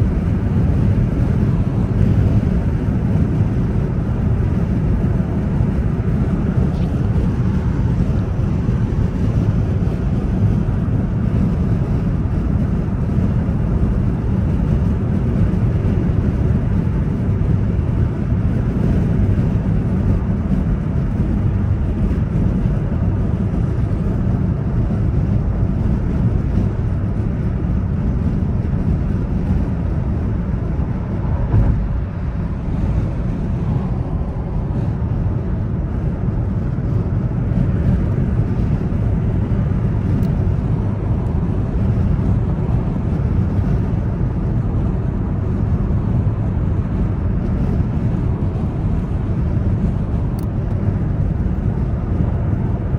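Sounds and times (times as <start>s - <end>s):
car cabin road and engine rumble: 0.0s - 52.9s.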